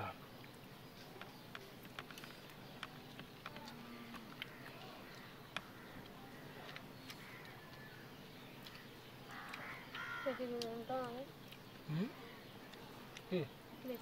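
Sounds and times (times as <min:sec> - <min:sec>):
people eating crunchy food: 0:00.0 - 0:14.0
faint voices: 0:00.9 - 0:14.0.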